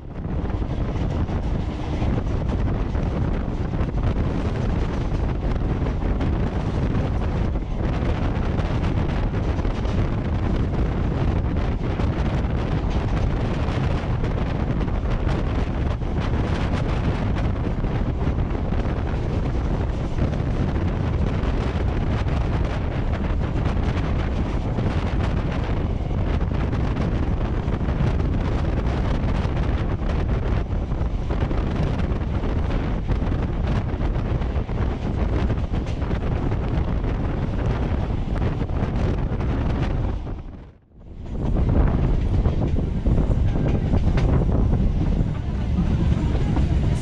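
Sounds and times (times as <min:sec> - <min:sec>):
train running on track: 0:00.0 - 0:47.0
wind buffeting microphone: 0:00.0 - 0:47.0.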